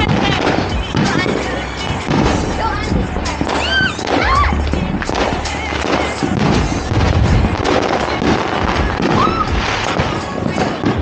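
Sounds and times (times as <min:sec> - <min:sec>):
firecrackers cracking: 0:00.0 - 0:11.0.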